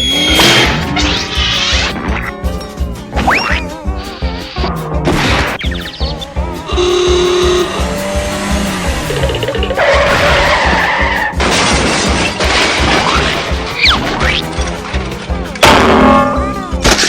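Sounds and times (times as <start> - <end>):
music with steady beat: 0.0 - 11.6, 13.3 - 17.0.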